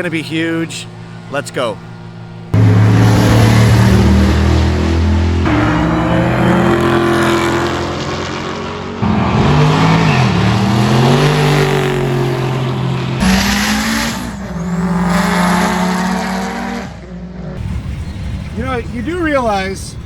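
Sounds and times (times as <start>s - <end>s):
car engines at full throttle: 0.0s - 20.0s.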